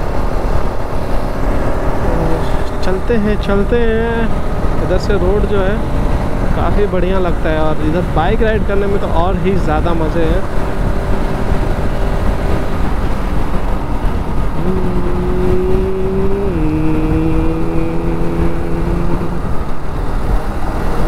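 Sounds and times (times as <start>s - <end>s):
motorcycle engine hum: 0.0s - 21.0s
wind rush on microphone: 0.0s - 21.0s.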